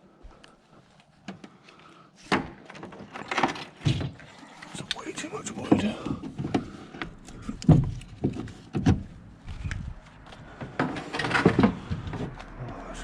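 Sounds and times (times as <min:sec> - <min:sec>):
junk being moved by hand: 0:02.2 - 0:12.6.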